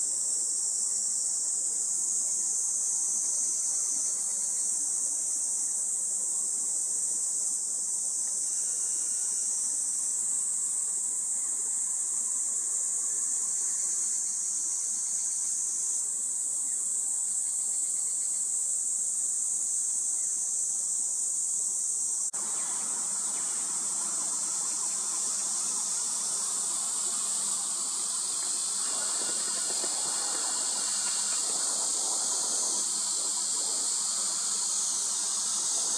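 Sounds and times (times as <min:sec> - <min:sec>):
high-pitched insect drone: 0:00.0 - 0:35.9.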